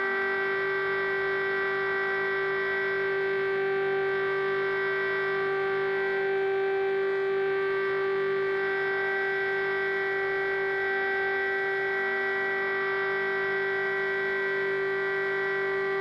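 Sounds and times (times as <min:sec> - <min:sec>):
siren long steady tone: 0:00.0 - 0:16.0.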